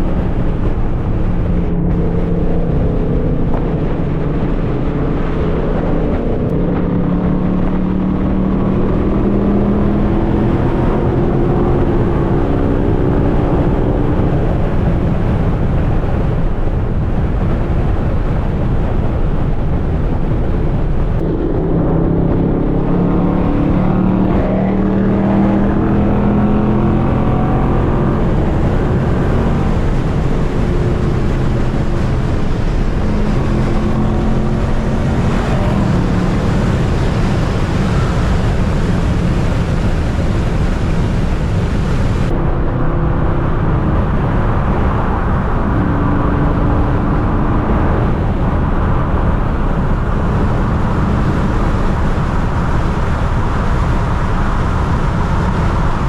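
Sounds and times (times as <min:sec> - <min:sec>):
car engine rumbling while driving: 0:00.0 - 0:56.0
road noise: 0:00.0 - 0:56.0.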